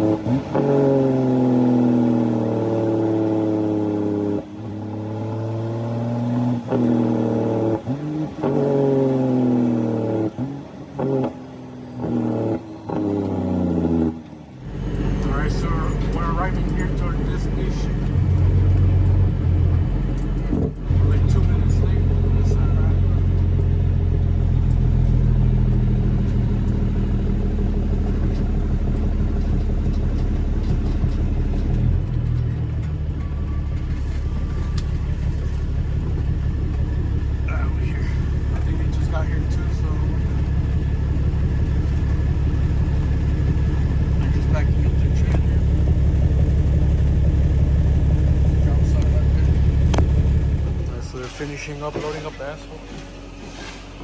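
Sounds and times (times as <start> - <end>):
diesel truck engine downshifting: 0.0 - 54.0.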